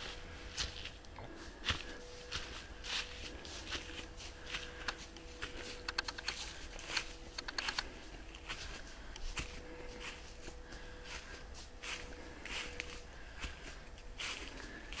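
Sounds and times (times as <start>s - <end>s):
footsteps crunching on dry trail: 0.0s - 15.0s.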